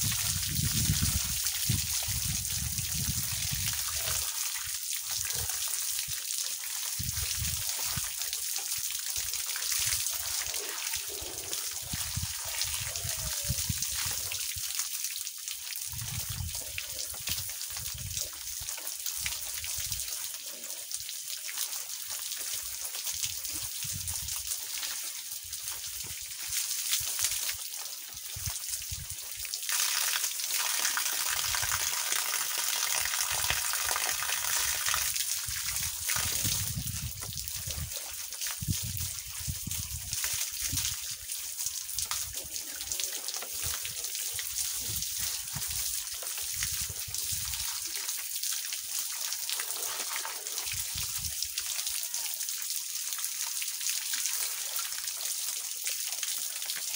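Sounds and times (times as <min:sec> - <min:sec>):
garden hose water splashing: 0:00.0 - 0:56.9.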